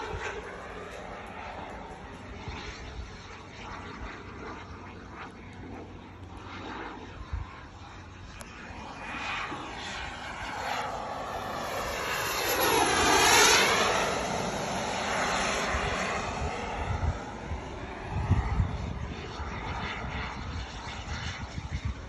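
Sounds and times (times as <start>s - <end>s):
model jet turbine whine: 0.0s - 22.0s.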